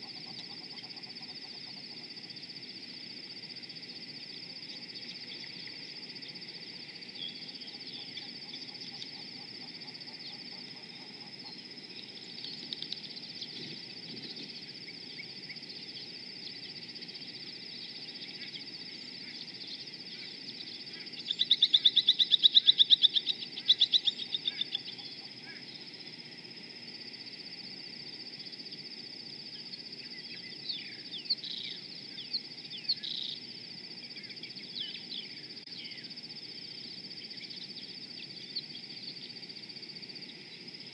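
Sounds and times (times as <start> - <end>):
steady high-pitched whine: 0.0 - 40.9.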